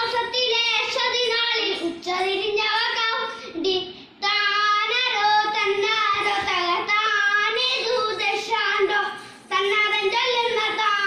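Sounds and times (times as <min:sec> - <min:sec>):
boy singing unaccompanied: 0:00.0 - 0:11.0.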